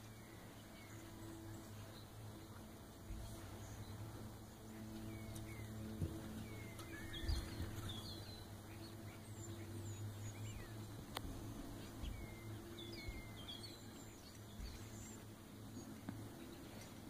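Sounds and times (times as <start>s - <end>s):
faint low hum: 0.0s - 17.0s
small birds chirping: 0.0s - 17.0s.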